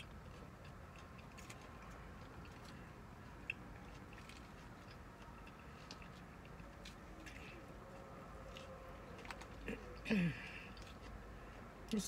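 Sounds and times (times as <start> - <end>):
chewing and biting food: 0.0 - 12.0.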